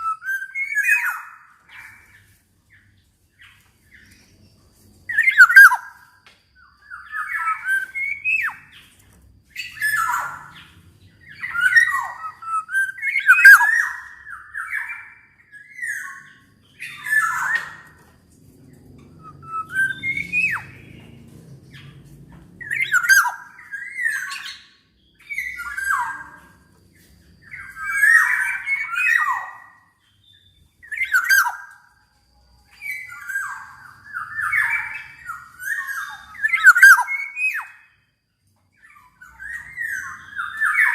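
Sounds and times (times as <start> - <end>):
oriole calling with harsh notes: 0.0 - 40.9.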